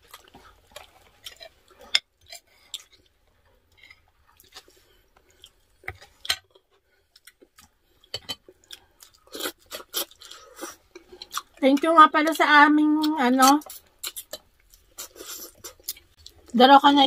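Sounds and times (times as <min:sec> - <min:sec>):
chewing and mouth sounds: 0:00.0 - 0:12.4, 0:13.0 - 0:16.6.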